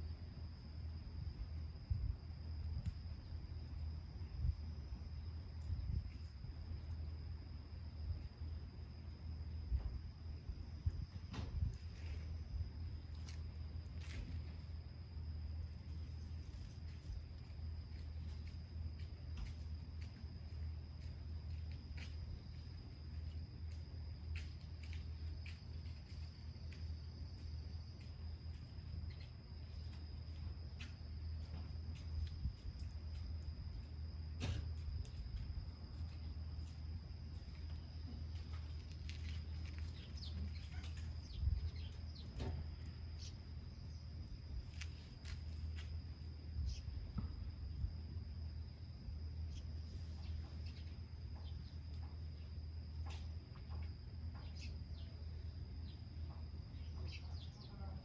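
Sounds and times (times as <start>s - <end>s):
insect fast pulsing chirps: 0.0s - 58.0s
insect high continuous trill: 0.0s - 58.0s.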